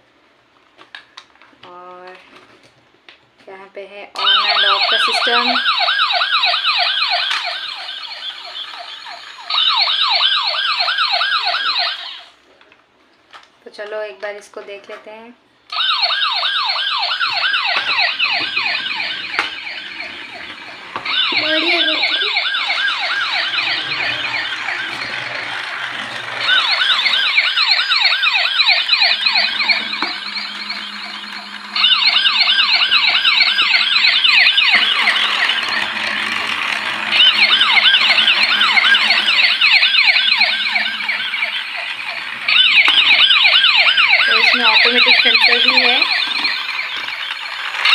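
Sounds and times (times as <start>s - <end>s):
toy siren wailing: 4.2s - 12.4s, 15.7s - 47.9s.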